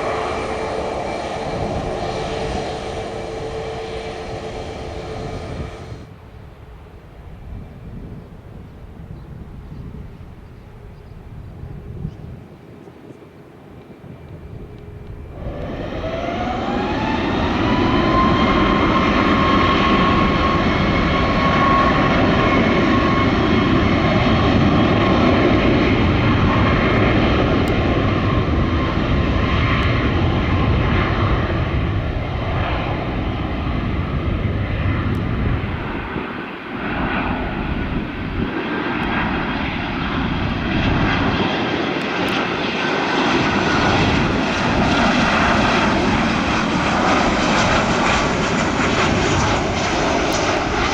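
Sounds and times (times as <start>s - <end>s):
airliner engines whining: 0.0s - 50.9s.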